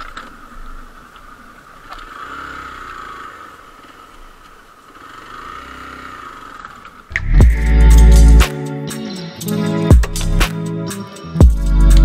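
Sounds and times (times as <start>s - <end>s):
motorcycle engine revving: 0.7s - 10.6s.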